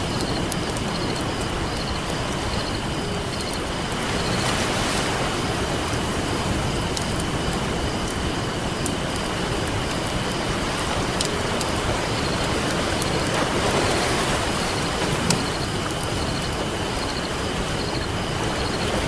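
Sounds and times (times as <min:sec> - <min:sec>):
campfire crackling: 0:00.0 - 0:19.0
ocean surf washing in: 0:00.0 - 0:19.0.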